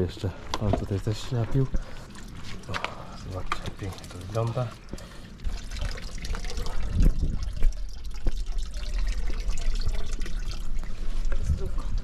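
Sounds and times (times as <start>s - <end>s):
water trickling and gurgling: 0.0s - 12.0s.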